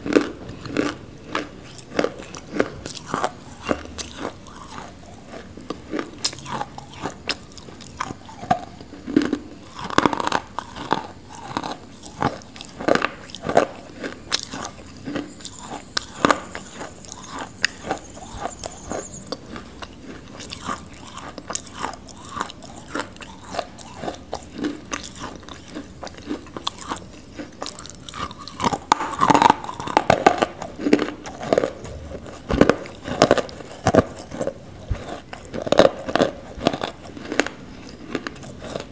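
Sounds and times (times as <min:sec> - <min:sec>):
biting and chewing clay: 0:00.0 - 0:38.9.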